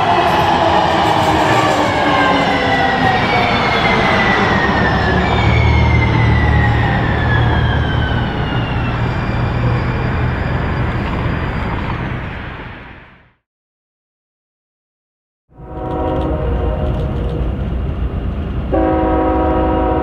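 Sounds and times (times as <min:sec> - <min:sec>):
light rail train passing: 0:00.0 - 0:13.3, 0:15.6 - 0:20.0.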